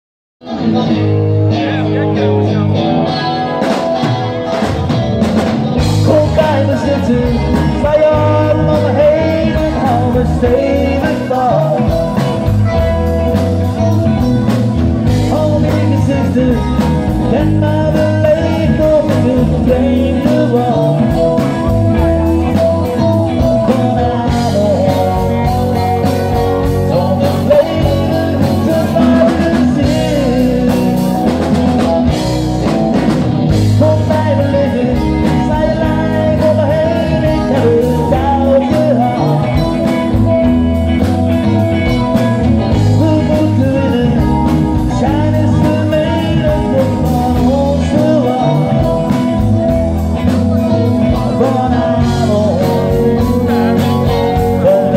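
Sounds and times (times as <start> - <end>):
rock band playing: 0.4 - 54.9
person singing: 5.8 - 54.9.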